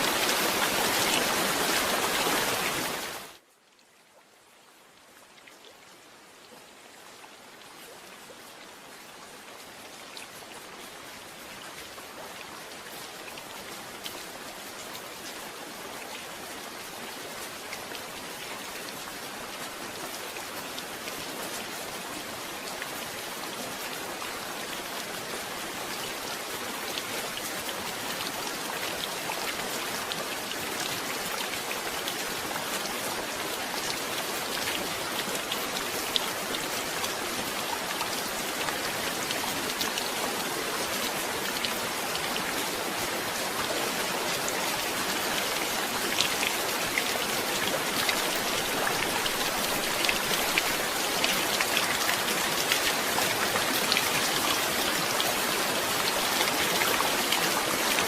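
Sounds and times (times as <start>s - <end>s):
rain drops ticking: 9.6s - 58.0s.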